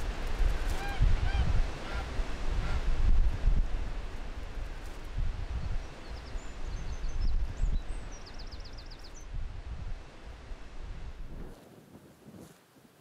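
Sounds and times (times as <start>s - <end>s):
gusty wind rumble: 0.0s - 12.5s.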